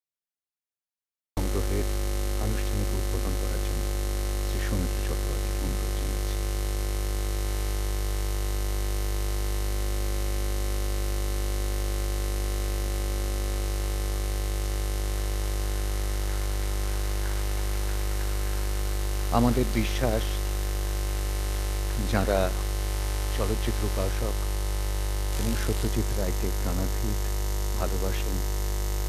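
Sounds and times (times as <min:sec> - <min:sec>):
electrical hum and buzz: 0:01.4 - 0:29.0.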